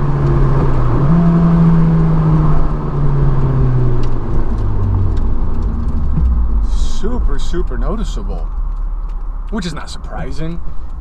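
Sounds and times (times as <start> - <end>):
car engine heard inside cabin: 0.0 - 11.0.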